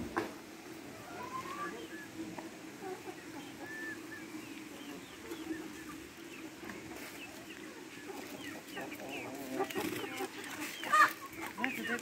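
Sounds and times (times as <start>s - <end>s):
birds chirping: 1.0s - 12.0s.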